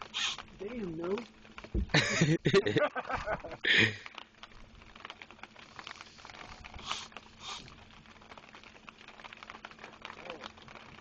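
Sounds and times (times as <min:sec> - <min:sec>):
raindrops pattering: 0:00.0 - 0:11.0.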